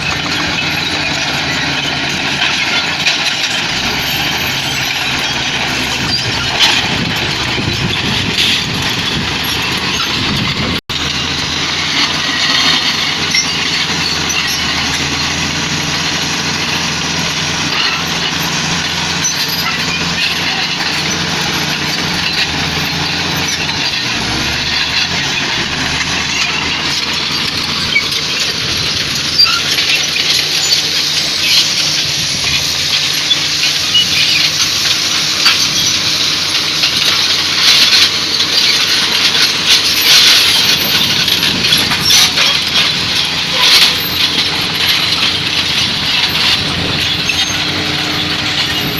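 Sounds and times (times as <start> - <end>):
heavy machine diesel engines running: 0.0 - 48.9.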